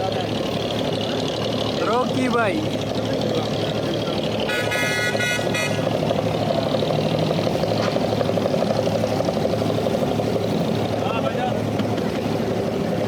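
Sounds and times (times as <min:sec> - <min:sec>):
boat diesel engine chugging: 0:00.0 - 0:13.0.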